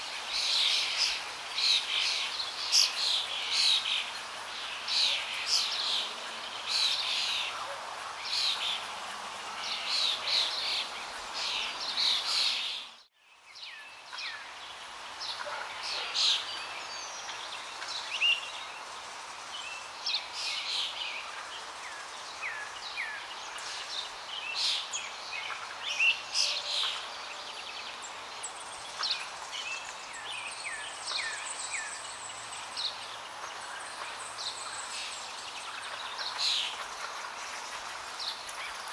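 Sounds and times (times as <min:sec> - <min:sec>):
background hiss: 0:00.0 - 0:38.9
small birds chirping: 0:00.0 - 0:38.9.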